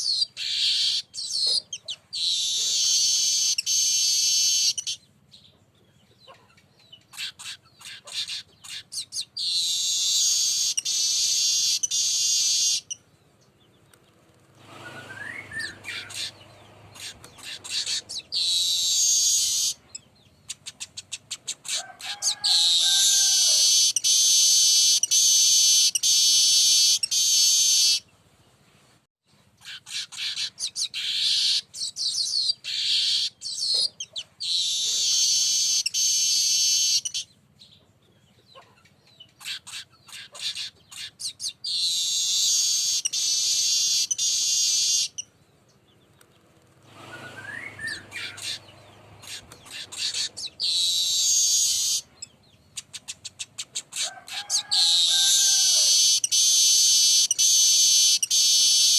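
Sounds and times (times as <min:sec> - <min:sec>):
fainter lower bird call: 0:00.0 - 0:28.1, 0:29.5 - 0:46.4, 0:47.0 - 0:58.9.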